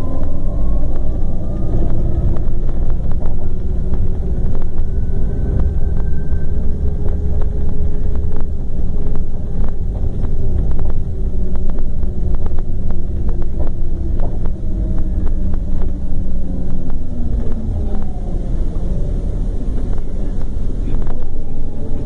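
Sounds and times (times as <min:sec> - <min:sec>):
coach engine rumbling: 0:00.0 - 0:22.0
sharp clicks and rattles: 0:00.0 - 0:22.0.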